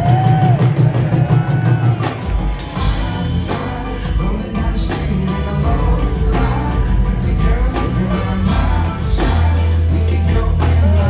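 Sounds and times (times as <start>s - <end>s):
live reggae band playing: 0.0s - 11.0s.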